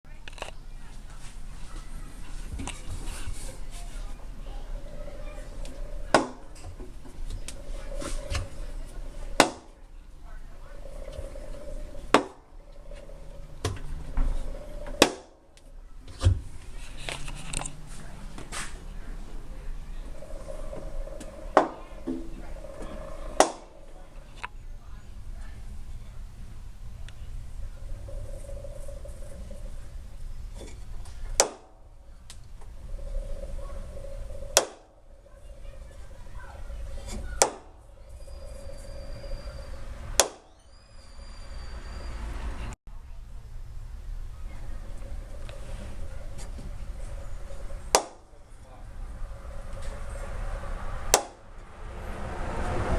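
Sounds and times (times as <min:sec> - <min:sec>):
low steady hum: 0:00.1 - 0:52.9.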